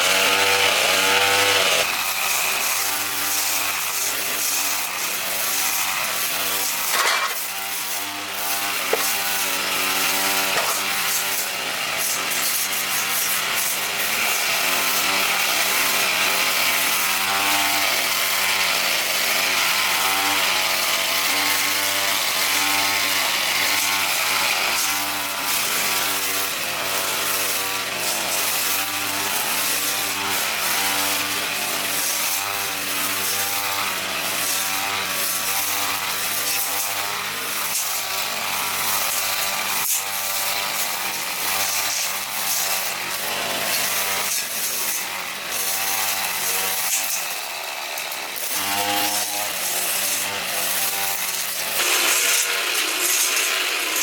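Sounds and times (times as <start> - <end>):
power saw cutting: 0.0 - 54.0.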